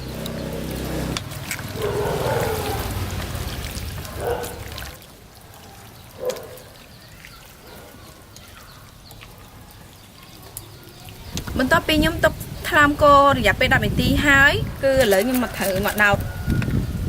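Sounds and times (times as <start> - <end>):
short wet squelches: 0.0 - 13.0, 14.3 - 16.8.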